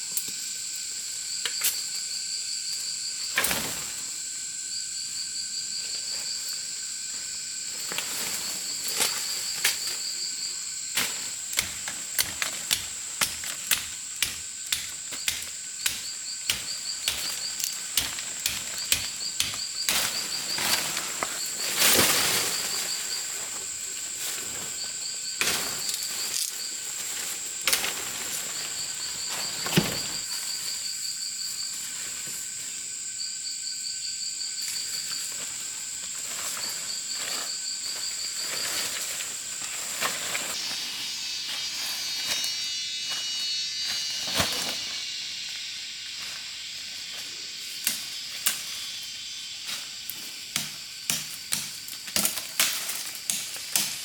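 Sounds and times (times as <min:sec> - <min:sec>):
insects droning: 0:00.0 - 0:54.0
rustle: 0:00.0 - 0:54.0.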